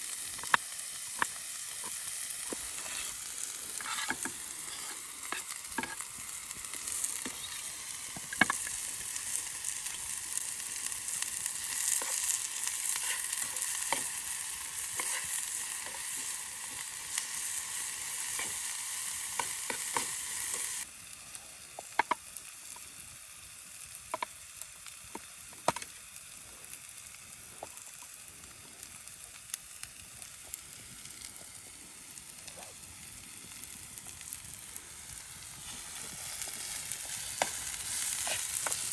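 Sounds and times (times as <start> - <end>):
onions sizzling in a pan: 0.0 - 38.9.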